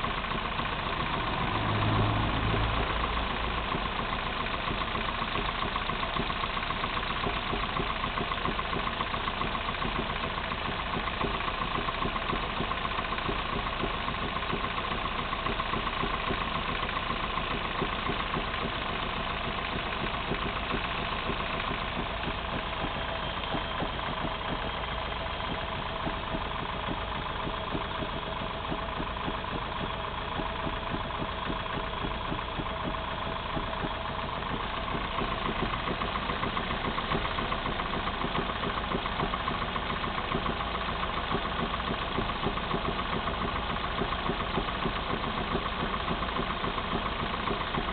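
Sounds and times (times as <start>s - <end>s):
car engine idling: 0.0s - 47.9s
knocking inside engine: 0.0s - 47.9s.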